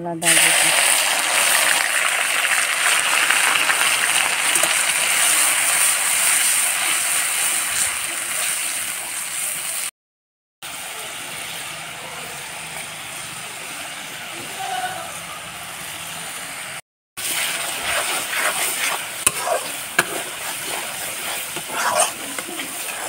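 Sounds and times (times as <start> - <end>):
spice paste sizzling in hot oil: 0.2 - 9.9, 10.6 - 23.0.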